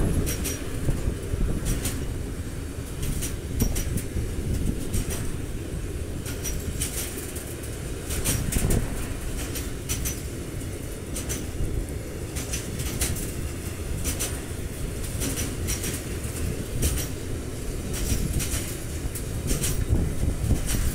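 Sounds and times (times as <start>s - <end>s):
freight train rumble: 0.0s - 20.9s
train wheel clicks: 0.0s - 20.9s.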